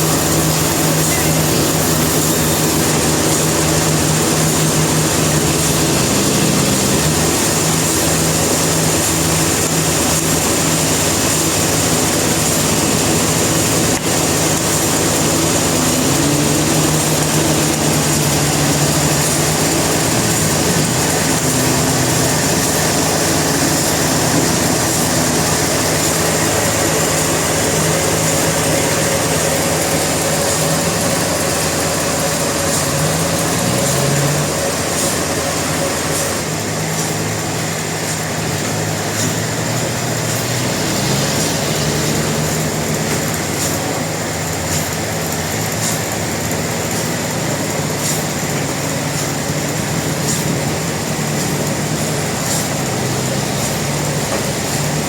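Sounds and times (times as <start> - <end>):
constant machine hiss: 0.0 - 55.0
sawmill engine running: 0.0 - 55.0.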